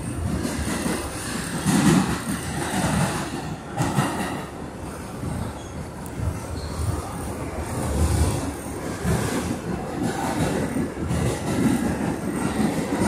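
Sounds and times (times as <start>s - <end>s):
subway wheels rumbling on rails: 0.0s - 13.0s.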